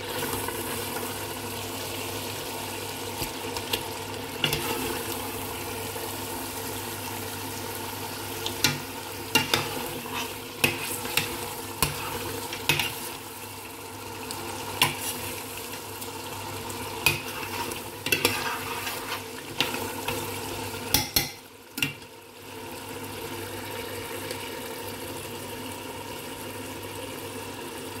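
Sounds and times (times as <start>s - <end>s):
curry sizzling: 0.0s - 28.0s.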